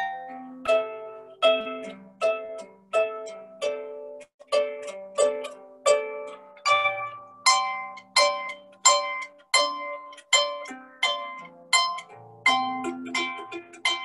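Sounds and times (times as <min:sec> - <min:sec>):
harp playing: 0:00.0 - 0:14.0.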